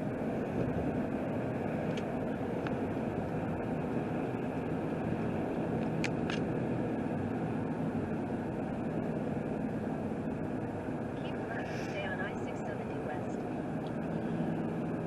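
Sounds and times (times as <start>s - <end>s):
road and engine drone: 0.0s - 15.0s.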